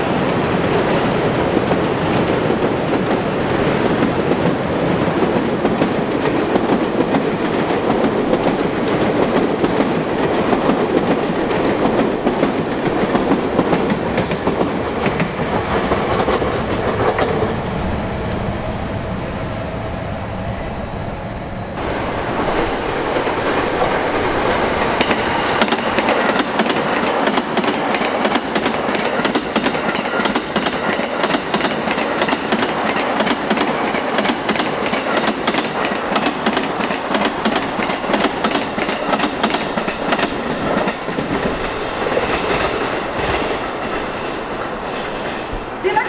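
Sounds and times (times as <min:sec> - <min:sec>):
electric train passing at speed: 0:00.0 - 0:46.0.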